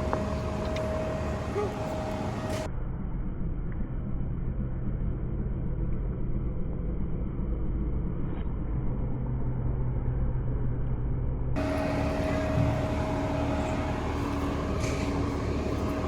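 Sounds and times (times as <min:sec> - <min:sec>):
vehicle engine rumbling: 0:00.0 - 0:03.5, 0:06.5 - 0:16.0
steady low hum: 0:00.0 - 0:16.0.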